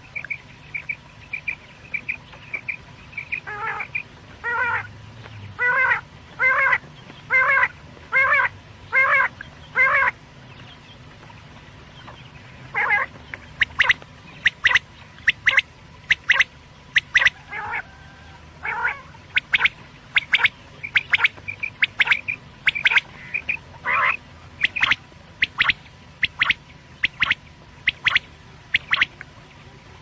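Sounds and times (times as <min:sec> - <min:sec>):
quail calling: 0:00.0 - 0:04.9, 0:05.6 - 0:10.2, 0:12.0 - 0:29.2.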